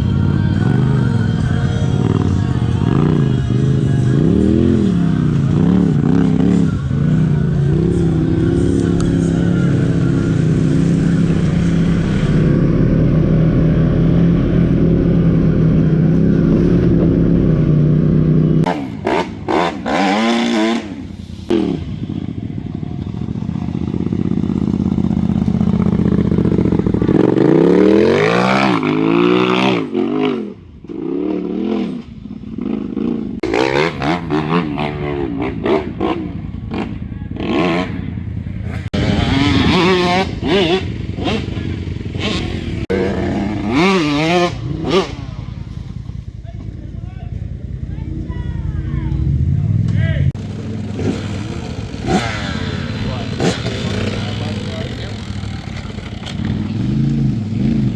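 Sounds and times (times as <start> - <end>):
off-road vehicle engine revving: 0.0 - 46.6, 47.4 - 57.9.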